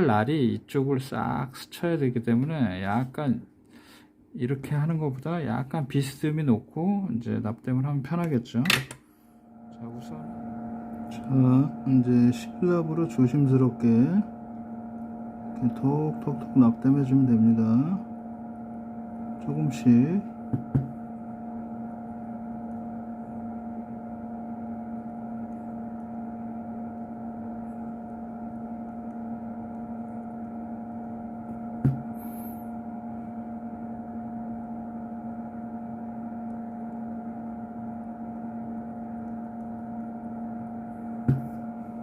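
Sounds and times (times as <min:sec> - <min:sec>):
electrical hum: 0:00.0 - 0:42.0.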